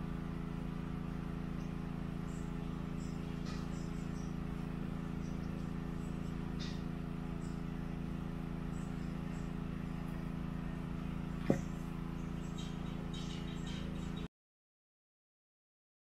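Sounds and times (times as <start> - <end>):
low hum with steady tones: 0.0 - 14.3.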